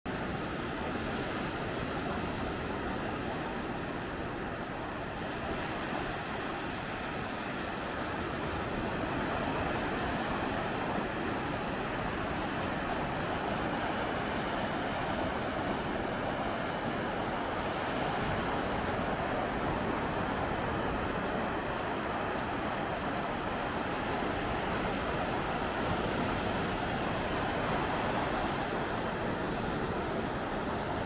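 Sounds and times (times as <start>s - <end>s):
sea waves breaking on beach: 0.1s - 31.0s.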